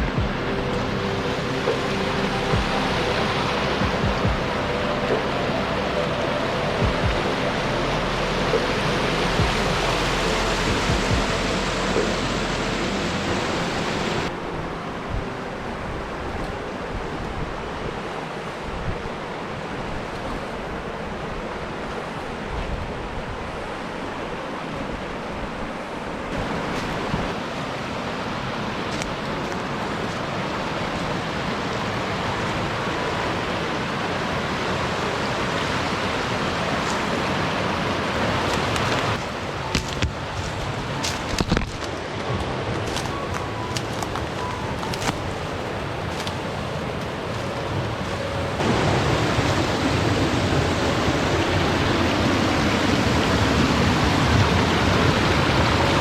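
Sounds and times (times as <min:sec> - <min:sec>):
falling water rushing: 0:00.0 - 0:56.0.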